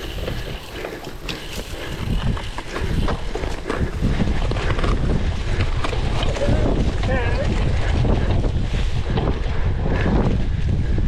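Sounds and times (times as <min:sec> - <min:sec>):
bike tyres and frame rattling: 0:00.0 - 0:11.0.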